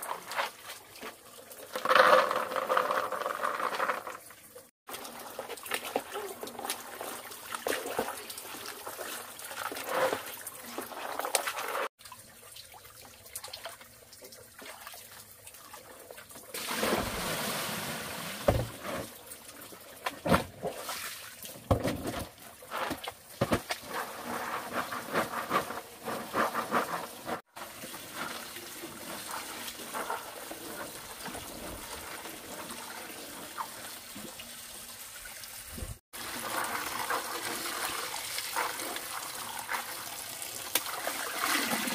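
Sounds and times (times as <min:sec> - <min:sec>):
water trickling and splashing: 0:00.0 - 0:26.2, 0:27.1 - 0:41.9.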